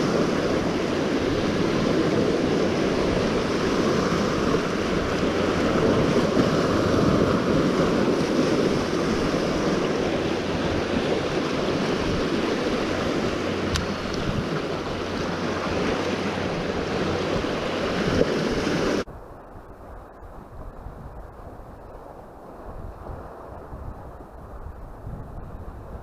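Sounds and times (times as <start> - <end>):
sea surf washing: 0.0 - 26.0
wind buffeting microphone: 0.0 - 26.0.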